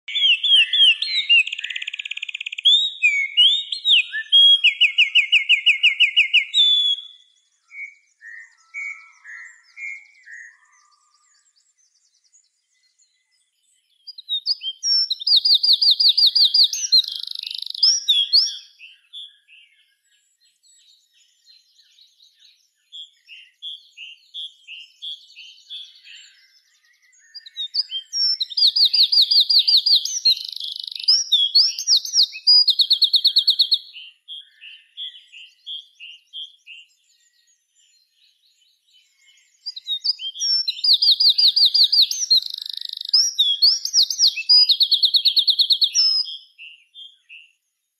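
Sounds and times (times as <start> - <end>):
wren singing trills: 0.0 - 47.9.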